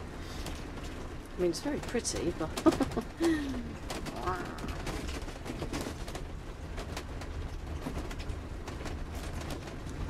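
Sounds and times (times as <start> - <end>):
engine and road rumble: 0.0 - 10.0
cab clicks and rattles: 0.4 - 10.0.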